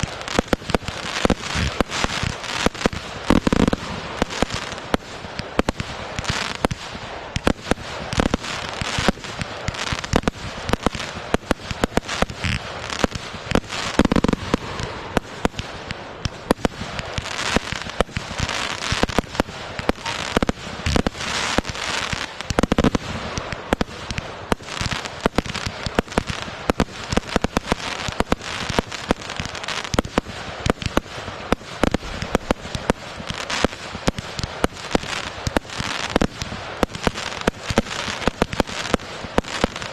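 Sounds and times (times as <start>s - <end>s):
deep firework bangs: 0.0s - 39.9s
fireworks crackling pops: 0.0s - 39.9s.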